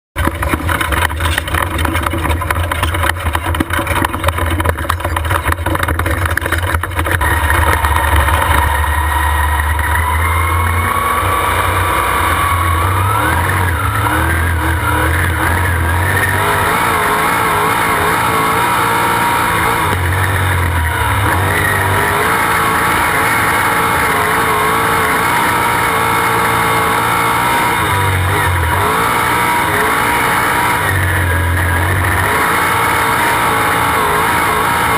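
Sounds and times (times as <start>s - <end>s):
race car engine: 0.2s - 34.9s.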